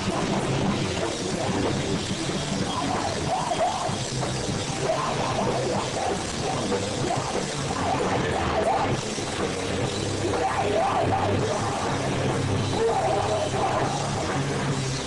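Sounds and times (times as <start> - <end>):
drum kit with cymbals: 0.0 - 15.0
electric guitar: 0.0 - 15.0.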